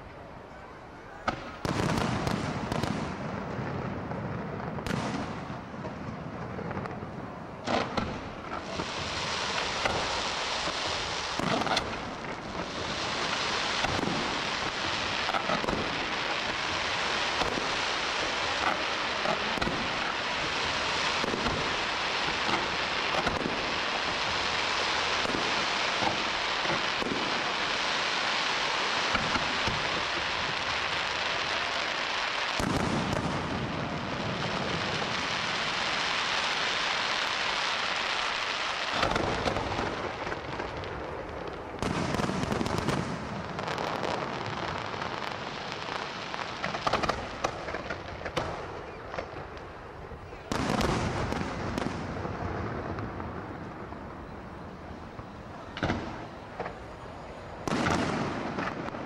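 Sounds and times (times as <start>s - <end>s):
deep fireworks rumble: 0.0s - 59.0s
fireworks crackling: 0.0s - 59.0s
fireworks pops: 1.2s - 3.2s, 4.8s - 17.8s, 18.4s - 28.1s, 28.8s - 30.9s, 31.7s - 57.0s, 57.6s - 59.0s.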